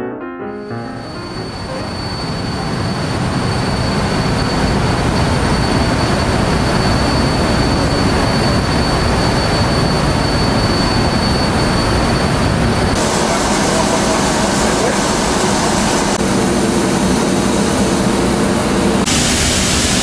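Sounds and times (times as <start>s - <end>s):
high-pitched whine: 0.9s - 20.0s
loud machinery rush: 1.2s - 20.0s.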